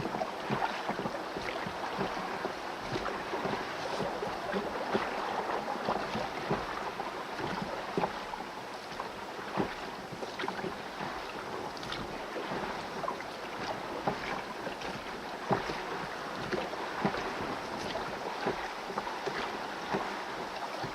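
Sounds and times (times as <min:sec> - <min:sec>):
oars dipping and splashing: 0:00.0 - 0:20.9
water lapping against hull: 0:00.0 - 0:20.9.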